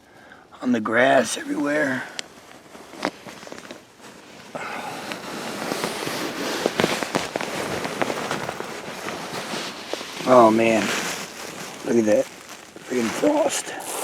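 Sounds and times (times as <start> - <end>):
frost crunching and crackling: 1.3 - 14.0.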